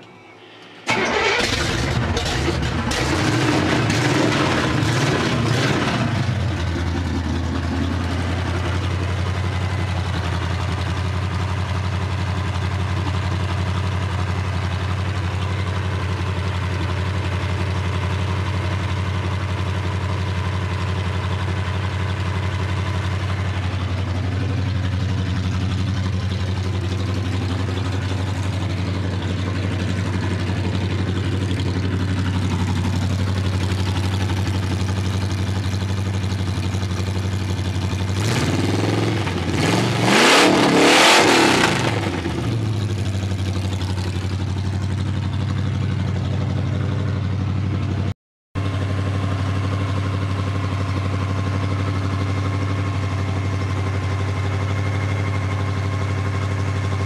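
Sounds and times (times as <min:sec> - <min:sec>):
truck engine starting and idling: 0:00.0 - 0:57.0.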